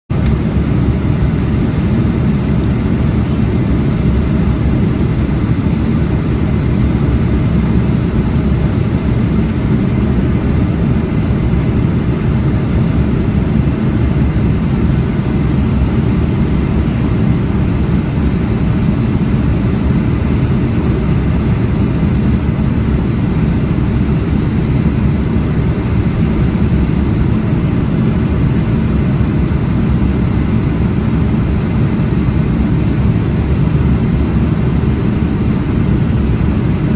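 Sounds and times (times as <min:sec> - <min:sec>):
aircraft engine and airflow rumble: 0:00.1 - 0:36.9.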